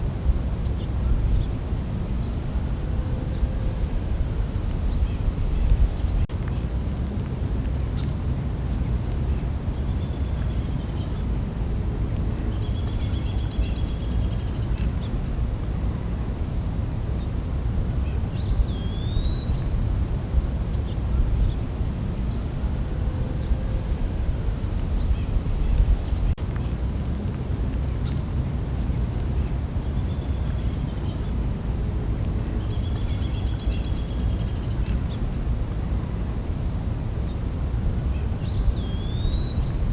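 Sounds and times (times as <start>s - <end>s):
cricket chirps: 0.0s - 39.9s
insect drone: 0.0s - 39.9s.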